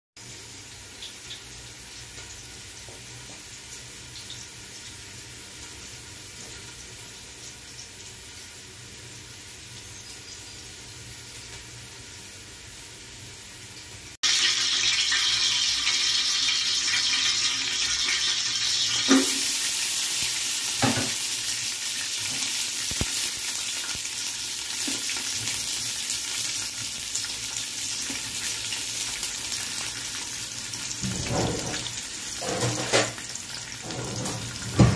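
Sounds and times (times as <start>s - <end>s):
hot oil sizzling in a pot: 0.2s - 34.9s
onions frying in oil: 0.2s - 34.9s.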